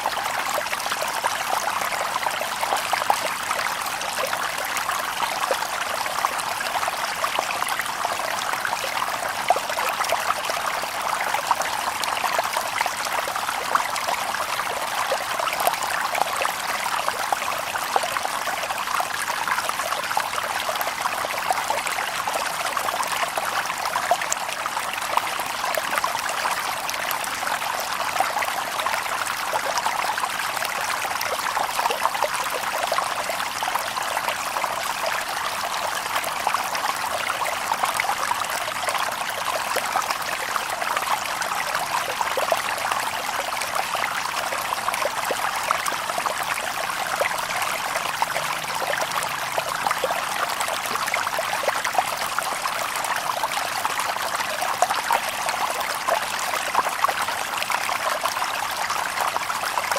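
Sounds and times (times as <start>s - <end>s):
river water babbling over stones: 0.0s - 59.9s.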